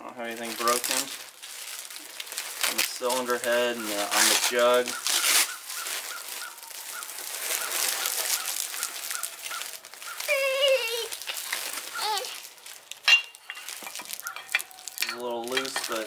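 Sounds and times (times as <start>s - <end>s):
plastic sack rustling: 0.2s - 16.0s.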